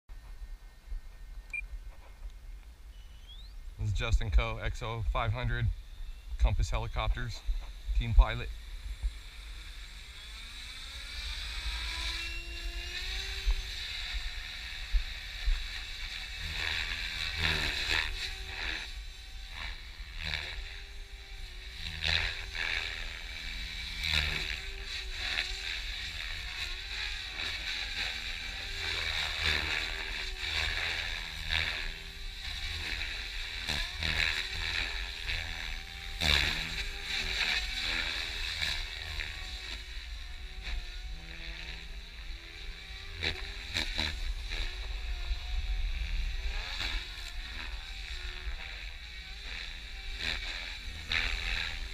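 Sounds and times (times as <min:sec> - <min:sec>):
rc helicopter motor whine: 0:00.2 - 0:51.9.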